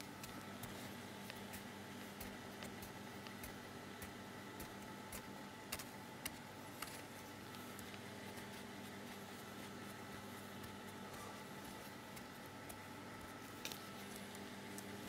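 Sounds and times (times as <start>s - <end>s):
kitchen equipment hum: 0.0s - 15.0s.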